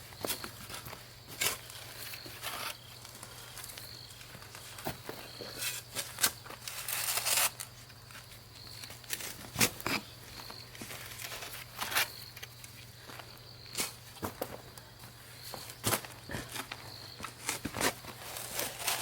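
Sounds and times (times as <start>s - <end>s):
footsteps outdoors: 0.0s - 19.0s.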